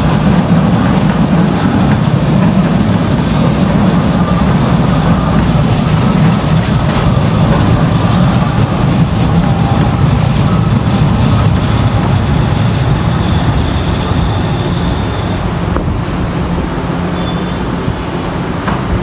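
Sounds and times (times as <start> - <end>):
train cars rumbling on track: 0.0 - 19.0.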